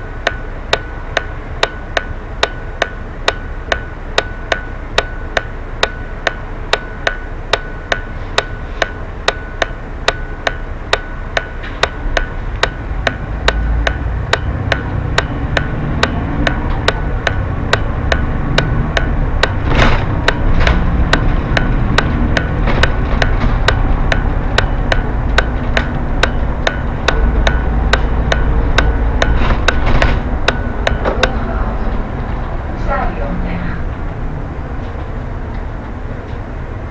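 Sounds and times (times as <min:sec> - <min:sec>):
turn-signal relay ticking: 0:00.0 - 0:33.1
bus engine rumble: 0:00.0 - 0:36.9.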